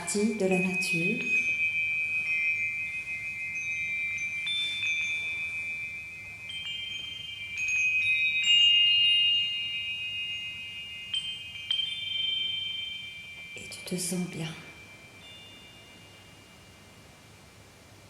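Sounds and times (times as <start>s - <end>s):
chimes ringing: 0.0s - 17.2s.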